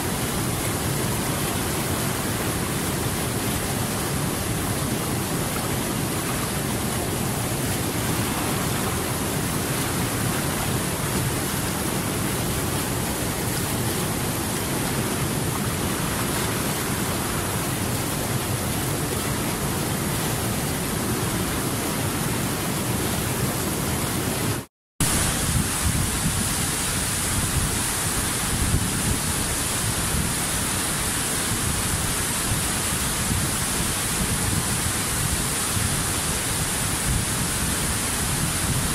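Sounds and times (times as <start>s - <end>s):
rushing falling water: 0.0s - 38.9s.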